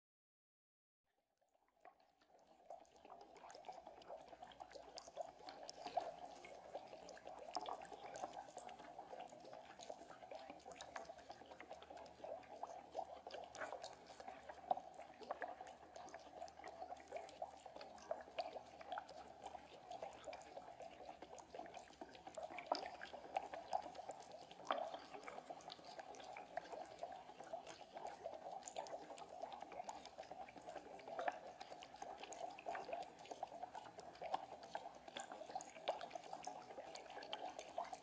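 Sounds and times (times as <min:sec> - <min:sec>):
crackling underwater clicks: 0:01.8 - 0:38.0.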